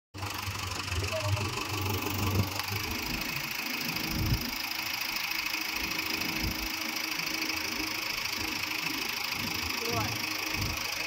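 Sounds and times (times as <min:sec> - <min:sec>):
diesel engine idling: 0:00.2 - 0:11.0.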